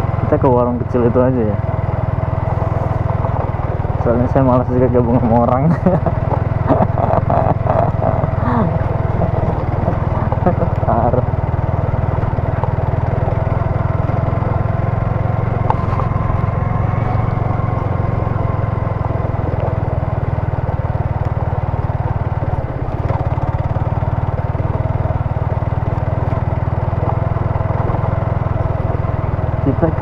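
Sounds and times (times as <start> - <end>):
motorcycle engine running: 0.0 - 30.0
tyres on gravel: 1.6 - 30.0.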